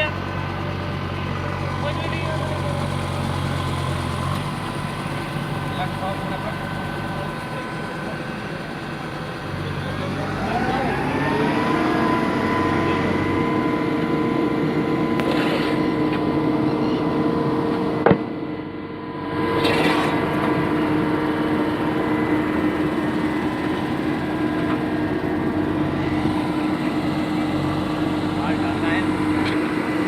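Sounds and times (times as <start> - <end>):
machine engine running: 0.0 - 30.0
steady whine: 0.0 - 30.0.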